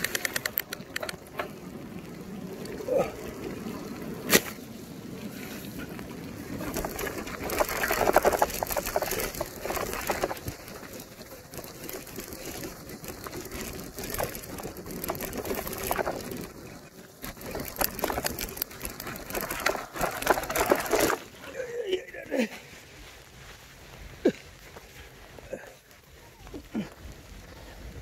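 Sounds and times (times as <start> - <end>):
bicycle tyres crunching over stones: 0.0 - 28.0
rain: 0.0 - 28.0.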